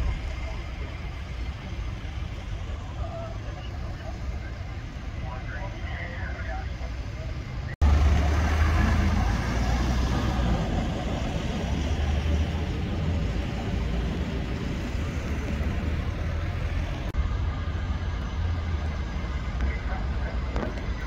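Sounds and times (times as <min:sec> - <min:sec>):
diesel engines rumbling: 0:00.0 - 0:21.0.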